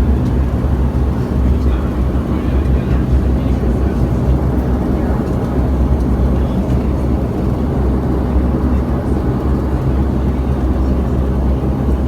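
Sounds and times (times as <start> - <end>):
turboprop engine drone in cabin: 0.0 - 12.0.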